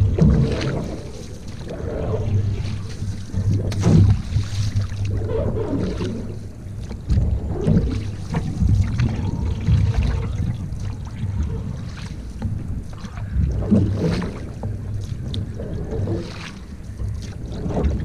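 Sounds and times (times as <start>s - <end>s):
water splashing around paddle: 0.0s - 18.0s
wind rumble on microphone: 0.0s - 18.0s.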